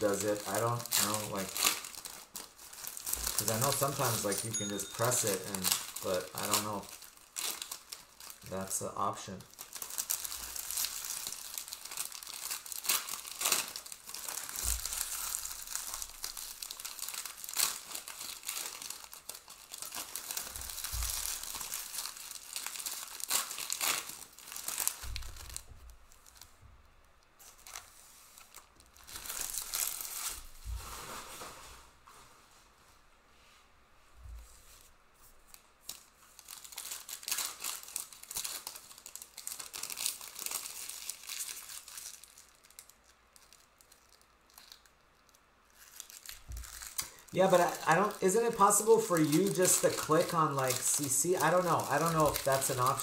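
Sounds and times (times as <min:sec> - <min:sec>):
foil wrappers crinkling and tearing: 0:00.0 - 0:26.6, 0:27.4 - 0:31.5, 0:35.2 - 0:53.0.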